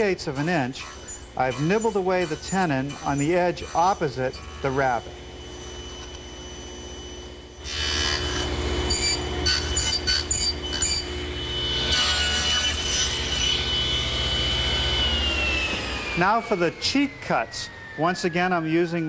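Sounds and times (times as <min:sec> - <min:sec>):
table saw cutting wood: 0:00.0 - 0:19.0.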